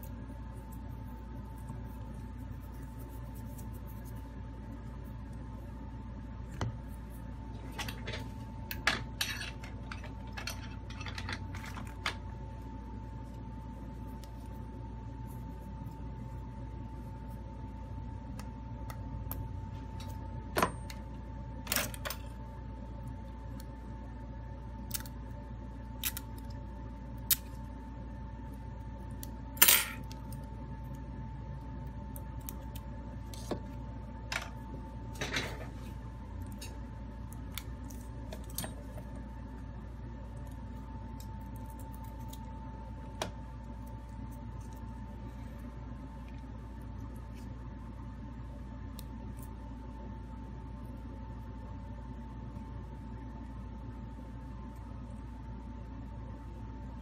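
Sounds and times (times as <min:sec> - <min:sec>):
steady hum with faint whine: 0:00.0 - 0:57.0.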